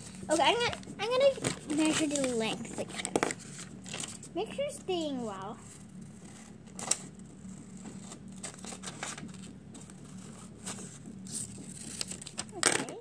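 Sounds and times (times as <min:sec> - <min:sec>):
paper rustling: 0:00.0 - 0:04.3, 0:05.0 - 0:13.0
low steady hum: 0:00.0 - 0:13.0.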